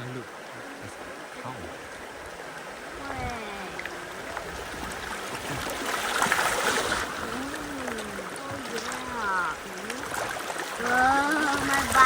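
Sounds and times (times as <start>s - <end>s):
river water flowing and trickling: 0.0s - 12.0s.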